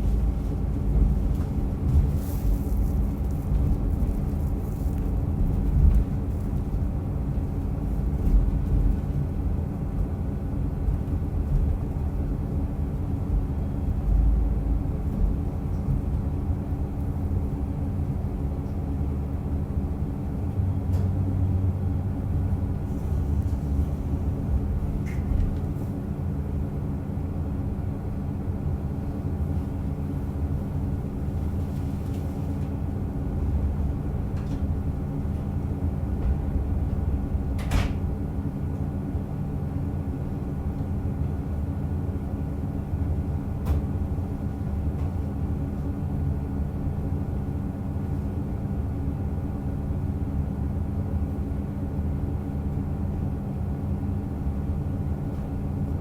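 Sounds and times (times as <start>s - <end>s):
railcar wheels and engine rumble: 0.0s - 56.0s.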